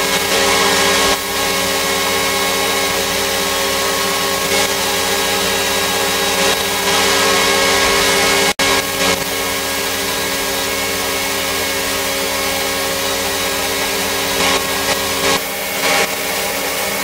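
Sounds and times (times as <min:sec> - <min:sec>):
power tool motor hissing: 0:00.0 - 0:17.0.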